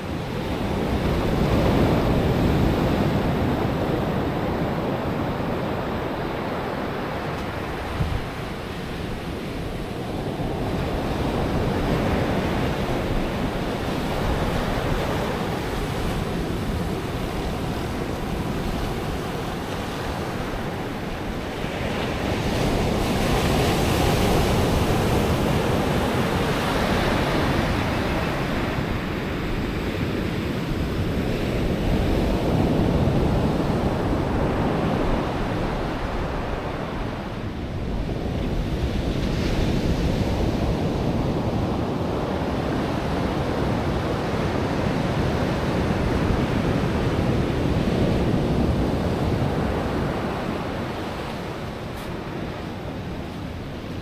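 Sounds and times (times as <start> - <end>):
surf breaking ashore: 0.0 - 54.0
wind on microphone: 0.0 - 54.0.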